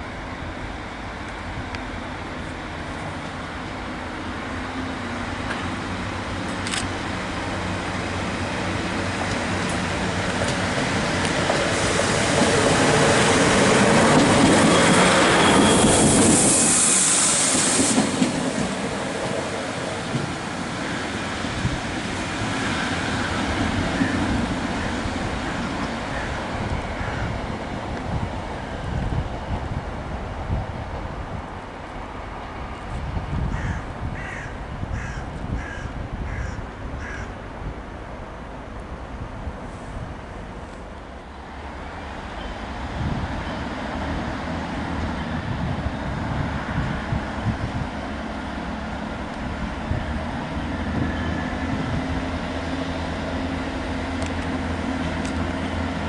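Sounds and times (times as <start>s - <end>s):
diesel train engines running: 0.0s - 34.8s, 35.4s - 56.0s.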